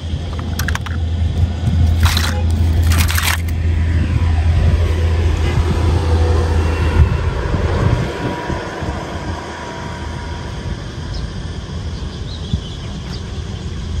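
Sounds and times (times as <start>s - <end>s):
truck rumble: 0.0s - 12.3s
traffic noise: 0.0s - 14.0s
wind on microphone: 0.0s - 14.0s.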